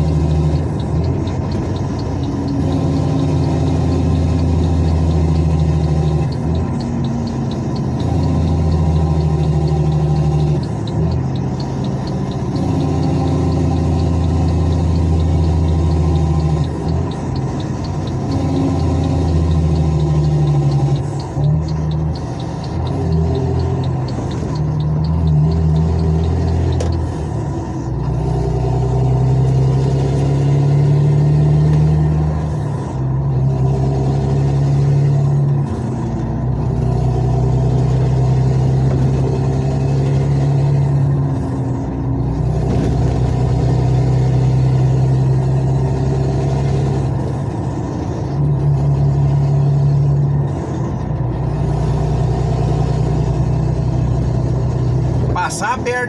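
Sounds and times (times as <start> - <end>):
heavy vehicle diesel engine: 0.0 - 56.0.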